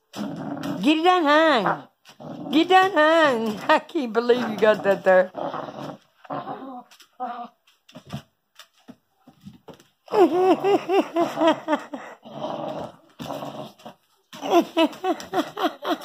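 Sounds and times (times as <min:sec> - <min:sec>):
dog growling: 0:00.1 - 0:07.6, 0:10.6 - 0:16.0.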